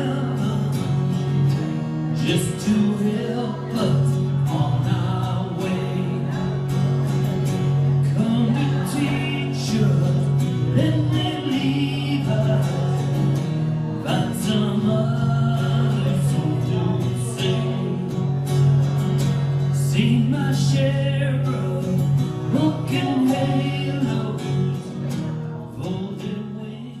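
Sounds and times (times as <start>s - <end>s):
person singing: 0.0s - 27.0s
strummed acoustic guitars: 0.0s - 27.0s.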